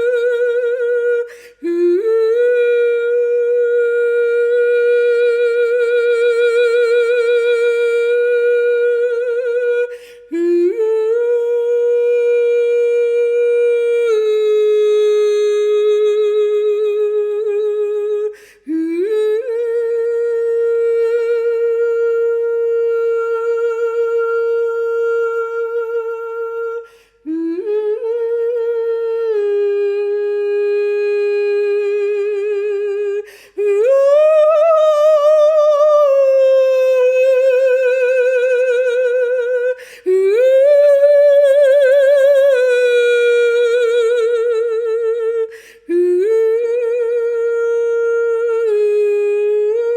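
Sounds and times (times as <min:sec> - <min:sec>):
person singing long held notes: 0:00.0 - 0:49.9.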